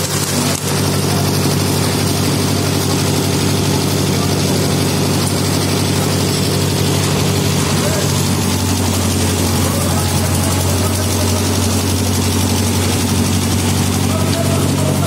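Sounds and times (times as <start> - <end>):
machinery engine humming: 0.0 - 15.0.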